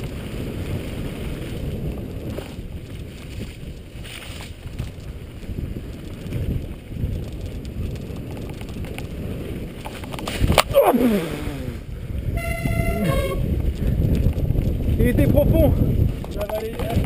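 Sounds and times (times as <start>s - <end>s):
bike tyres rumbling over dirt: 0.0s - 17.0s
wind on microphone: 0.0s - 17.0s.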